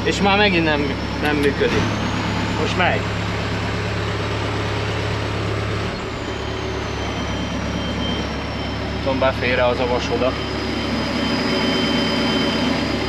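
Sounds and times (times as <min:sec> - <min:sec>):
high hydraulic whine: 0:00.0 - 0:13.0
machine engine hum: 0:00.0 - 0:13.0.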